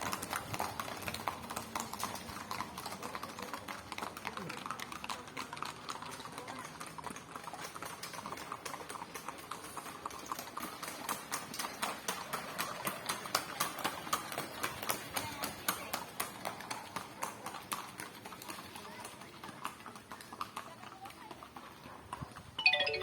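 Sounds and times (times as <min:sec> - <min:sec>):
horses hooves clip-clopping: 0:00.0 - 0:23.0.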